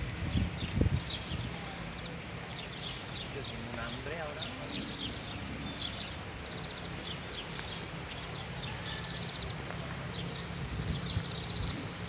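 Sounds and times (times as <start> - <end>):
small birds chirping: 0.2 - 12.0
car engine idling: 1.6 - 12.0.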